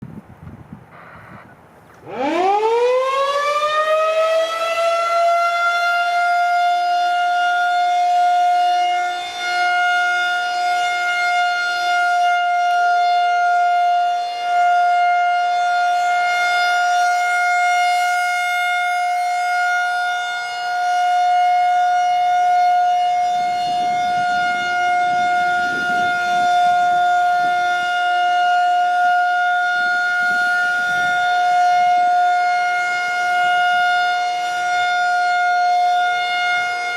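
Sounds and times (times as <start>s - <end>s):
warning siren steady tone: 0.9s - 36.9s.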